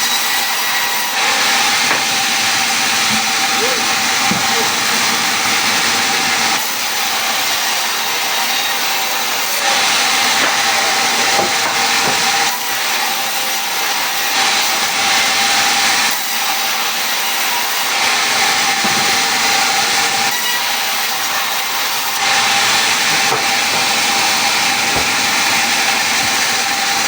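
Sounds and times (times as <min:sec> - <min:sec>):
power tool cutting wood: 0:00.0 - 0:27.0.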